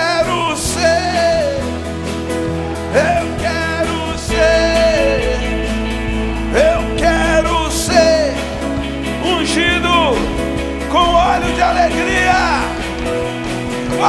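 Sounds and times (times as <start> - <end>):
person singing: 0.0 - 14.0
worship band music: 0.0 - 14.0.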